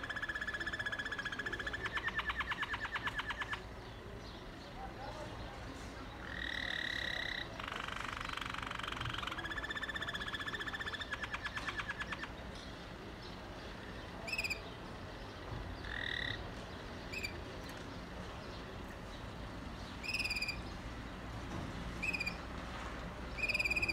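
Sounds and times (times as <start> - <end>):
canary singing trills: 0.0 - 21.1, 22.0 - 22.5, 23.3 - 23.9.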